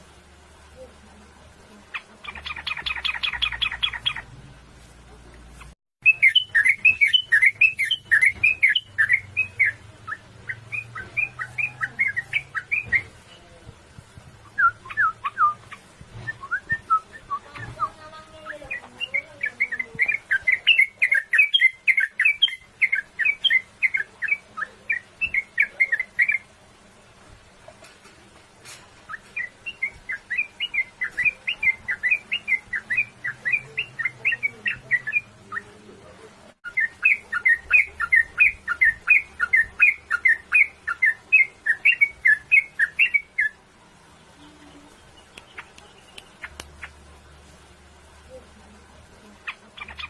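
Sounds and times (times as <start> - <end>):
bulbul singing: 0.8 - 4.4, 5.5 - 26.9, 28.1 - 50.0.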